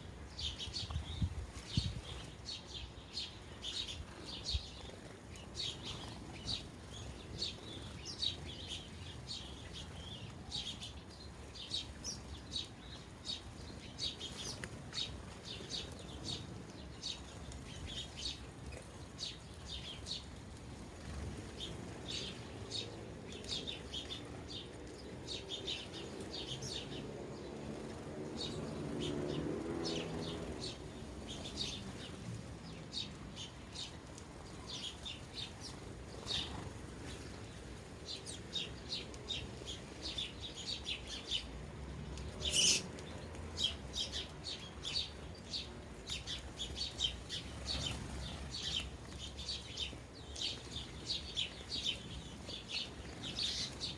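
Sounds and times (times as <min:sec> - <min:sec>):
sparrows chirping: 0:00.0 - 0:53.9.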